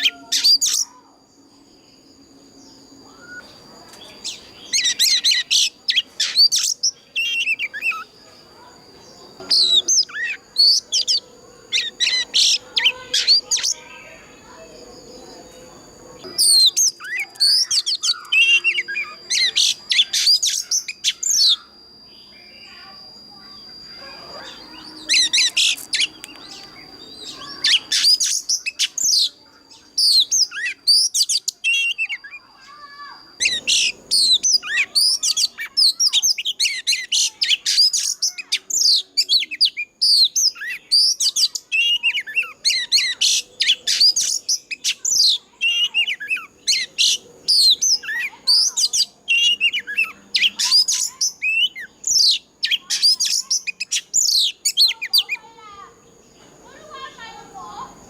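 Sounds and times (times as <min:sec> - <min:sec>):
bird singing whistles and chirps: 0:00.0 - 0:56.4
thin steady high tone: 0:00.0 - 0:58.0.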